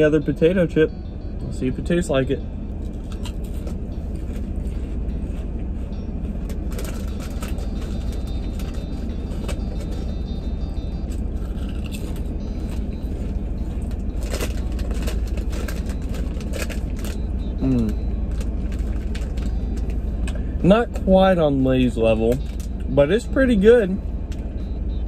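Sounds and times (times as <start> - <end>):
car rumble: 0.0 - 25.0.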